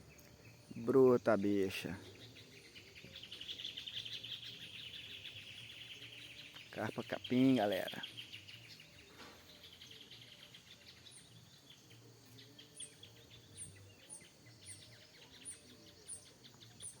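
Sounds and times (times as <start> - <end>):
insects calling: 0.0 - 17.0
small birds chirping: 0.0 - 17.0.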